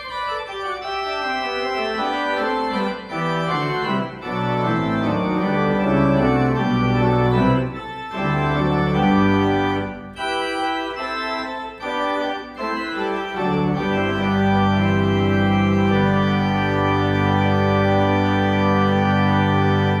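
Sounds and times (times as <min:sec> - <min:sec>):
church organ playing chords: 0:00.0 - 0:20.0.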